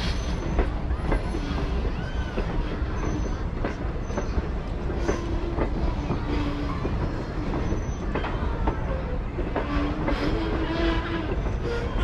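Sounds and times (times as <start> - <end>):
train cars rolling past: 0.0 - 12.0
train wheels clicking: 0.0 - 12.0
wheels squealing on rail: 0.0 - 12.0.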